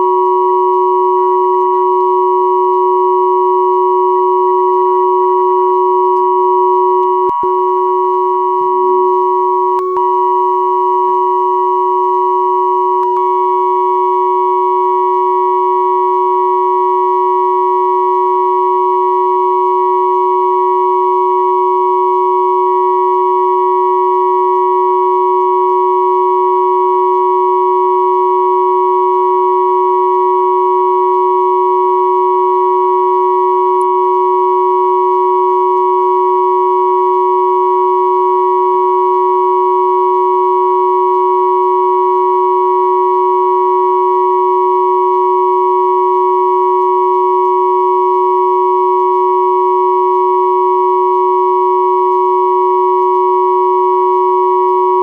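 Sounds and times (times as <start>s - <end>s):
electronic sine tone drone: 0.0s - 55.0s.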